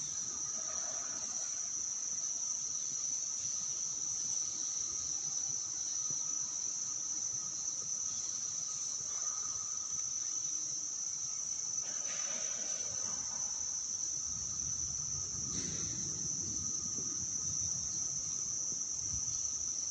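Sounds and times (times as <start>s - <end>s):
insects chorus shrill drone: 0.0s - 19.9s.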